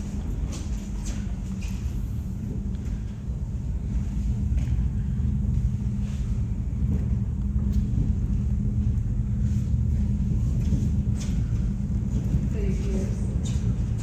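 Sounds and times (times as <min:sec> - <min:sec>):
cable car cabin rumble and hum: 0:00.0 - 0:14.0.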